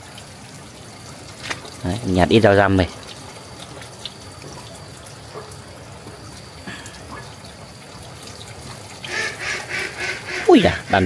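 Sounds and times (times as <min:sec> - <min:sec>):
water trickling from outlet: 0:00.0 - 0:11.0.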